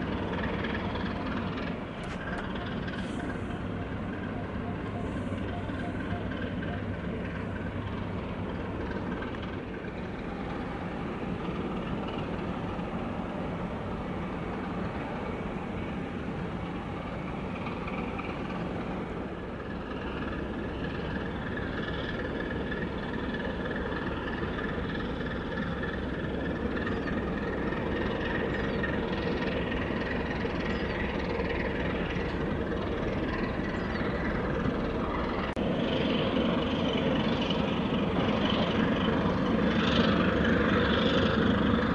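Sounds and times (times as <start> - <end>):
heavy engines rumbling: 0.0 - 41.9.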